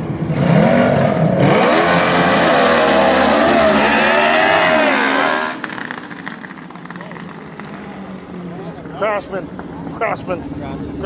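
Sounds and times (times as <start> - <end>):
lawn mower engines revving: 0.0 - 11.0.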